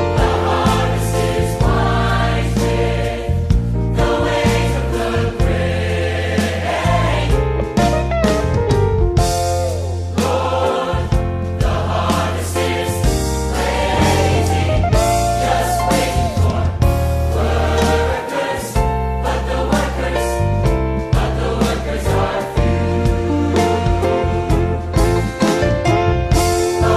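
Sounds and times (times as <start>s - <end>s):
choir singing gospel: 0.0s - 8.4s, 9.7s - 26.9s
instrumental backing with beat: 0.0s - 26.9s.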